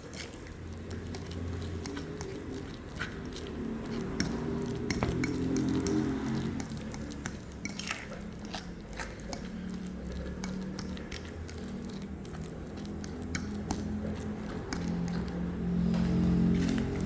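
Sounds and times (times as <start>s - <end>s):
utensil clinking against bowl: 1.0s - 17.0s.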